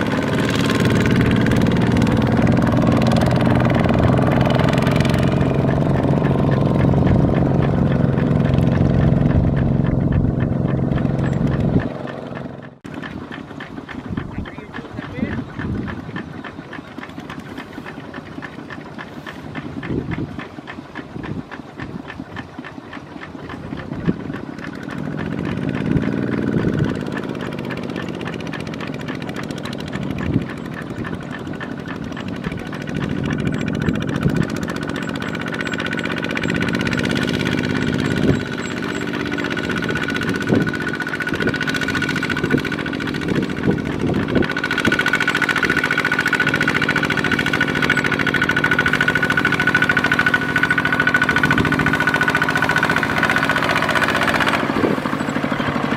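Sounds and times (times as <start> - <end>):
diesel engines revving: 0.0 - 55.9
knocks and clatter: 0.0 - 55.9.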